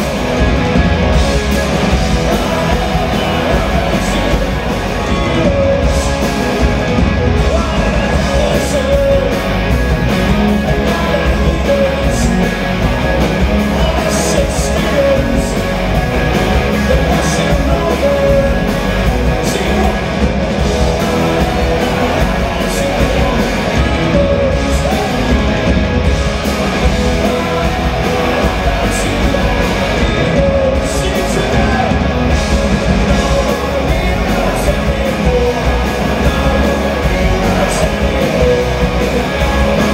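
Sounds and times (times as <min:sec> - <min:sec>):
bass guitar: 0:00.0 - 0:39.9
drums: 0:00.0 - 0:39.9
electric guitars: 0:00.0 - 0:39.9
man singing: 0:01.2 - 0:25.8, 0:26.5 - 0:39.9.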